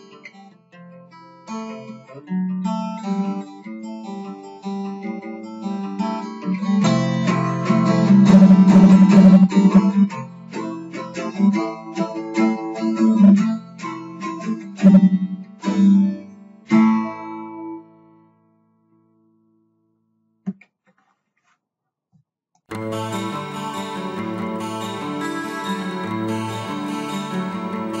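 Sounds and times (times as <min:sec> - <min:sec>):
acoustic guitar playing: 0:00.0 - 0:18.5, 0:22.7 - 0:28.0.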